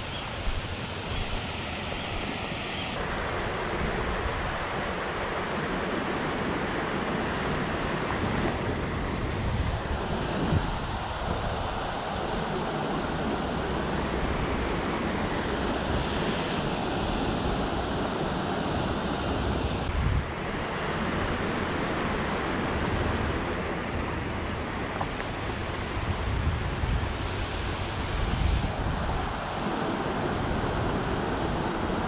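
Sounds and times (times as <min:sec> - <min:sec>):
wind rumble on microphone: 0:03.0 - 0:32.0.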